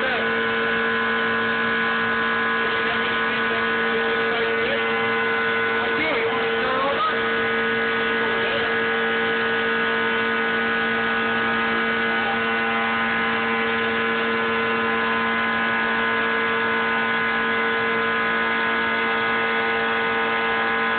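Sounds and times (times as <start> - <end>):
router motor whining: 0.0 - 20.9.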